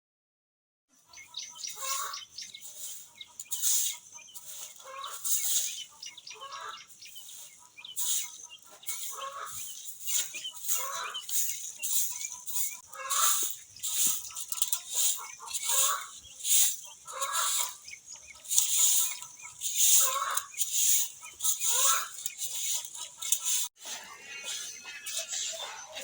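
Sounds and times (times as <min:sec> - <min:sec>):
chickens clucking: 0:01.0 - 0:26.0.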